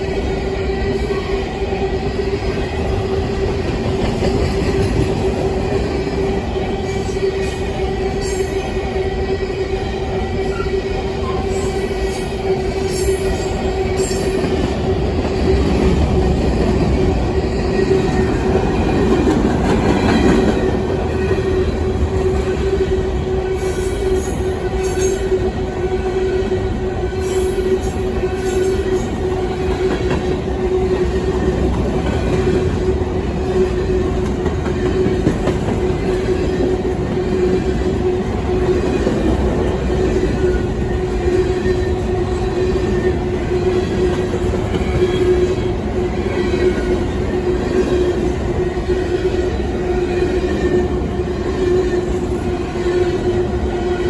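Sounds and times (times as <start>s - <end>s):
train wheels rolling: 0.0s - 54.0s.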